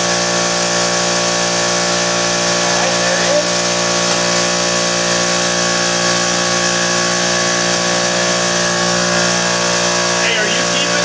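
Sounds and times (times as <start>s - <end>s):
electrical hum: 0.0s - 11.0s
plasma cutter hissing: 0.0s - 11.0s.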